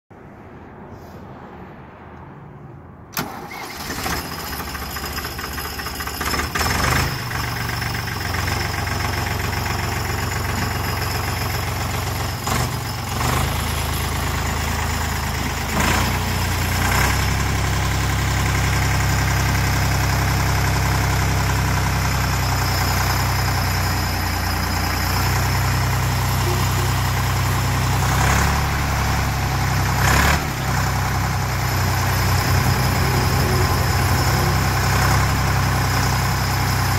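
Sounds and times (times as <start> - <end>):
diesel tractor engine running: 3.1 - 36.9.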